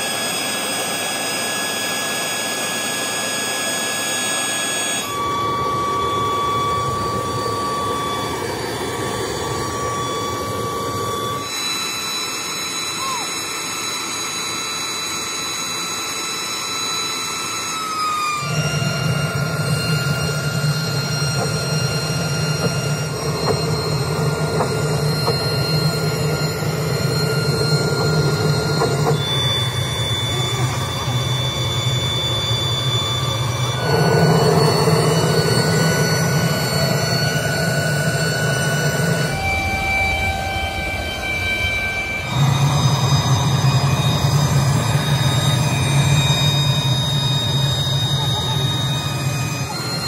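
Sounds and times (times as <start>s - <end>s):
furnace burner rushing with whine: 0.0s - 50.0s.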